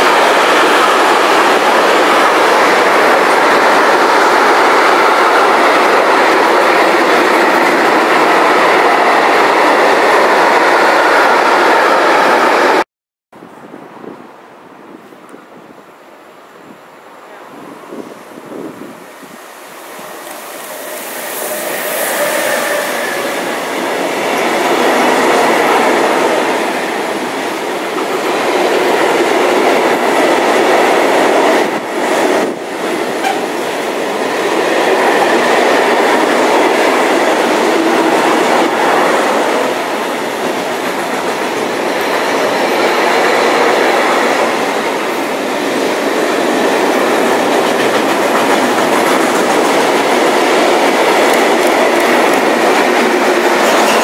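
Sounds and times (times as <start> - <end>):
freight train wheels on rails: 0.0 - 12.8, 16.6 - 54.0.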